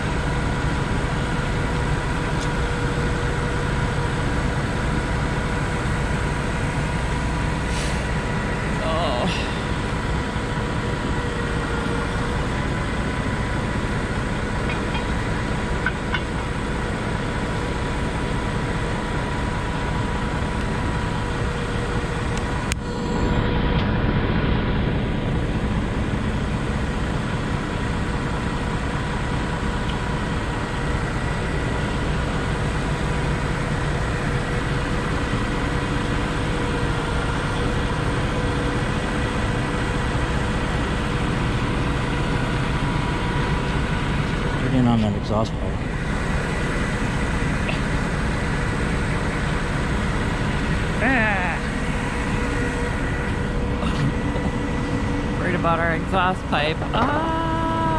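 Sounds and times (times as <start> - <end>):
steady whine: 0.0 - 57.9
truck engine running: 0.0 - 57.9.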